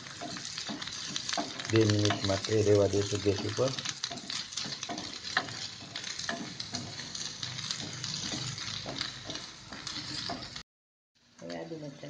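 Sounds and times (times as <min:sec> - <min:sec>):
onion sizzling in hot oil: 0:00.0 - 0:10.6
spatula scraping pan: 0:00.0 - 0:10.6.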